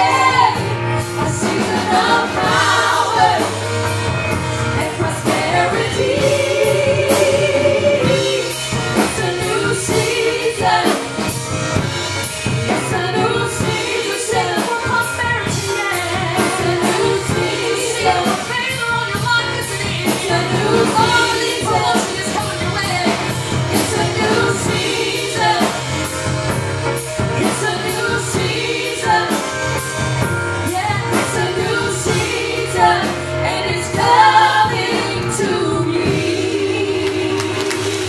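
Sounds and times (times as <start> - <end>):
band with bass and drums: 0.0 - 38.0
gospel voices singing: 0.0 - 38.0.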